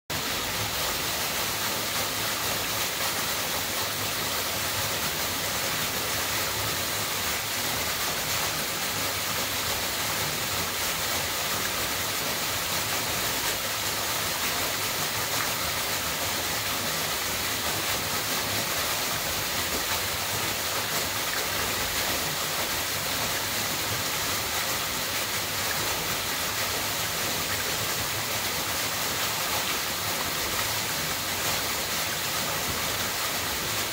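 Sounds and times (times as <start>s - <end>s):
waterfall splashing into pool: 0.1s - 33.9s.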